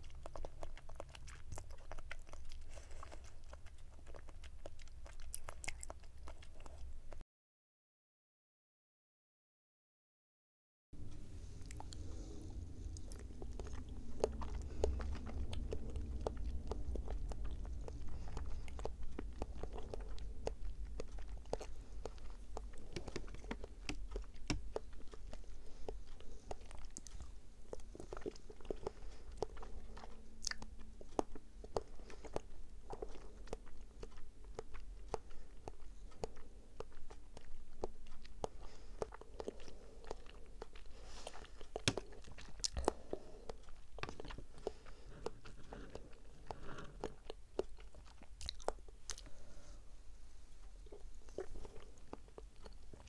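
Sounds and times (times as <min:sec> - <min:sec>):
wet squishing chewing: 0:00.0 - 0:07.2, 0:11.0 - 0:53.0.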